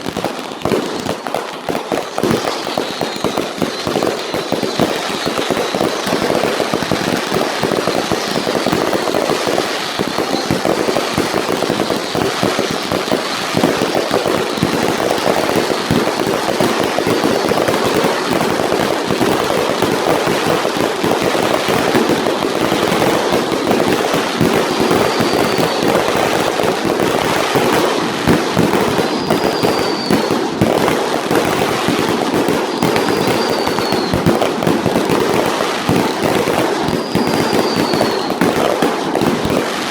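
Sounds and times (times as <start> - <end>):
firework whistles: 0.0 - 39.9
fireworks bursts and crackle: 0.0 - 39.9.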